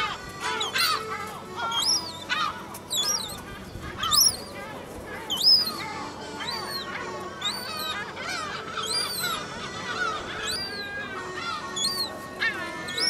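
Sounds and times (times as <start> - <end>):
gull calling: 0.0 - 13.0.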